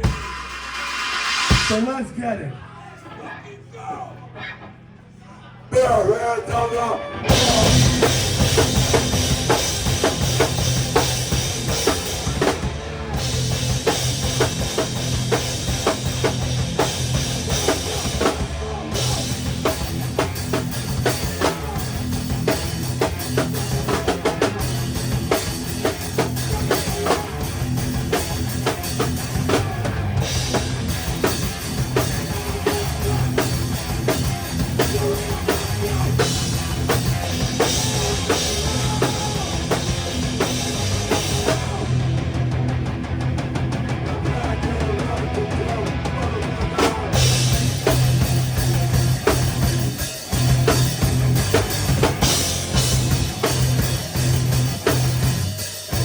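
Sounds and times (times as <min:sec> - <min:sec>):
drum kit: 0:00.0 - 0:02.4, 0:07.2 - 0:56.0
rock band playing: 0:00.0 - 0:05.0, 0:05.7 - 0:56.0.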